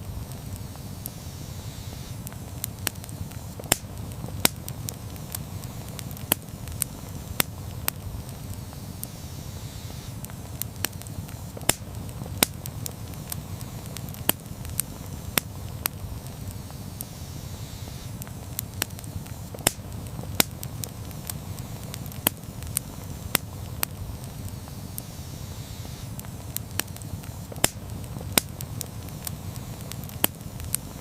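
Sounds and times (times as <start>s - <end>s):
burning wood crackling and popping: 0.0s - 31.0s
campfire flames rumbling: 0.0s - 31.0s.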